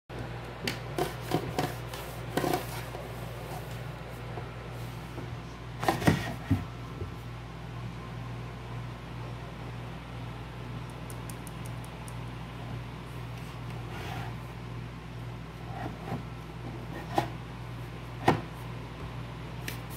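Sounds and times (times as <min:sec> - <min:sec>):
steady low hum: 0:00.1 - 0:19.9.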